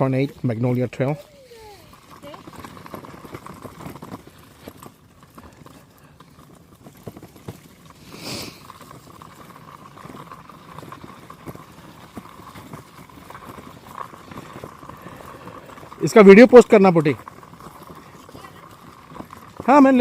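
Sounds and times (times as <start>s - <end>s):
footsteps on dirt trail: 0.0s - 20.0s.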